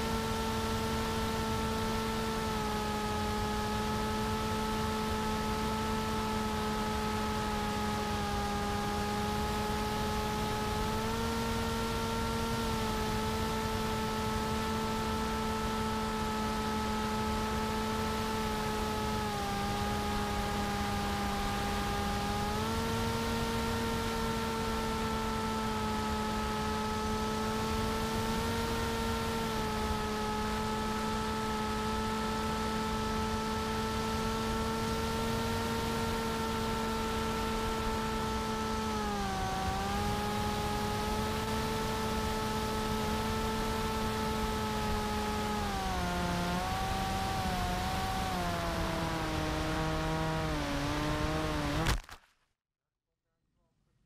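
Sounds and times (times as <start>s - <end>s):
electric motor propeller whine: 0.0s - 52.0s.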